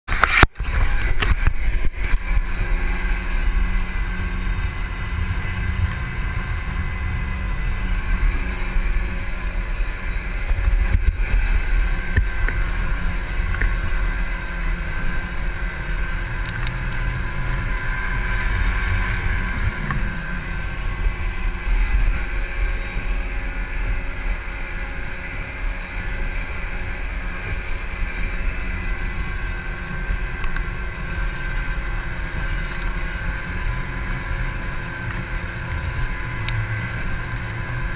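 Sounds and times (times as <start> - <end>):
outboard motors running: 0.1 - 37.9
wind buffeting microphone: 0.4 - 37.9.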